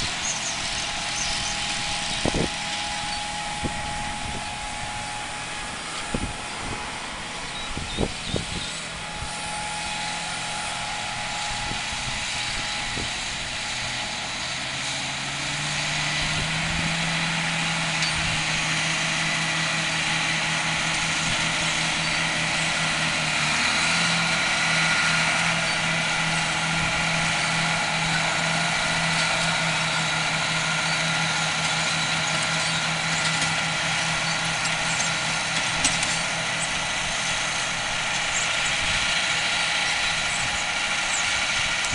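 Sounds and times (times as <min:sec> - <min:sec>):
tractor diesel engine: 0:00.0 - 0:41.9.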